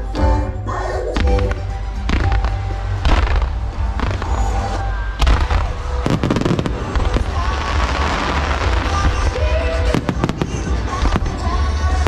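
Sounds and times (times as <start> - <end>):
fireworks bangs: 2.1 - 12.0.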